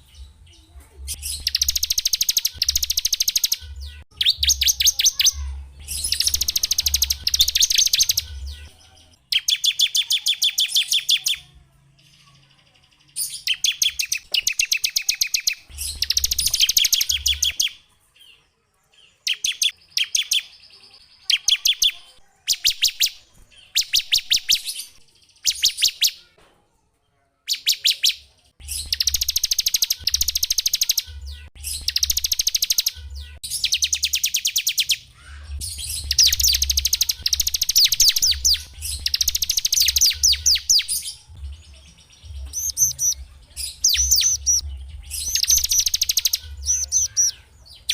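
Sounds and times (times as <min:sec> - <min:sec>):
songbird singing trills: 0:00.0 - 0:18.4, 0:19.0 - 0:26.3, 0:27.5 - 0:47.9.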